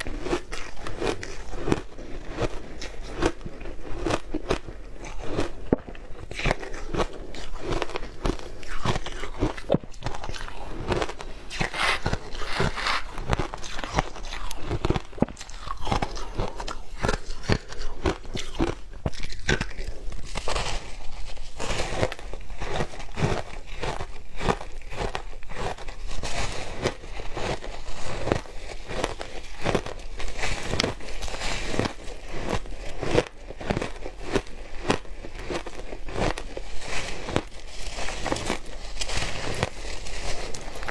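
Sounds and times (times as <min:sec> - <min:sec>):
crunching shaved ice: 0:00.0 - 0:40.9.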